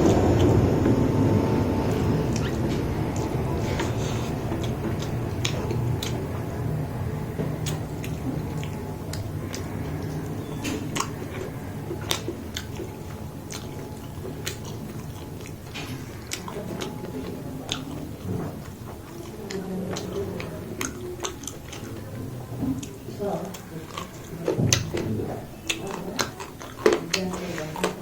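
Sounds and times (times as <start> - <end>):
low background hum: 0.0 - 28.0
person chewing: 0.0 - 28.0
mouth clicks and smacks: 2.3 - 6.8, 7.4 - 28.0.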